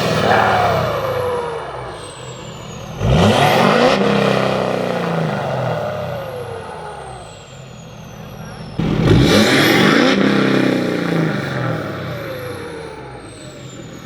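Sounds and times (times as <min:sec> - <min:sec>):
diesel truck engine revving: 0:00.0 - 0:14.0.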